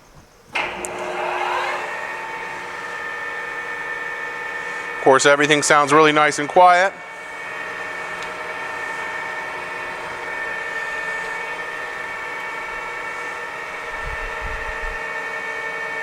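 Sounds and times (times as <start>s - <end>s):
lathe humming and whining: 0.4s - 16.0s.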